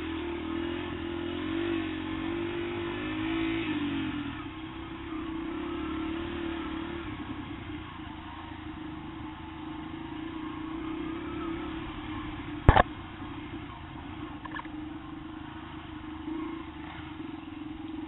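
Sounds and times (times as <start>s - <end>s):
motorbike engine running: 0.0s - 18.0s.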